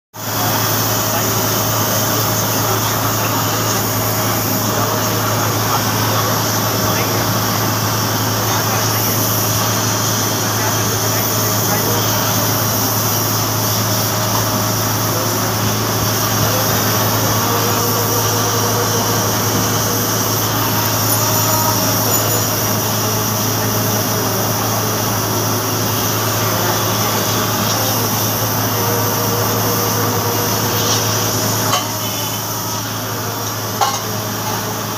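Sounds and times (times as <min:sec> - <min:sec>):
welding torch flame hissing: 0:00.2 - 0:34.9.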